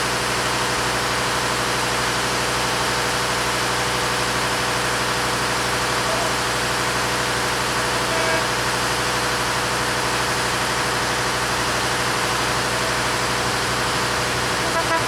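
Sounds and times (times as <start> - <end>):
locomotive engine idling: 0.0 - 15.0.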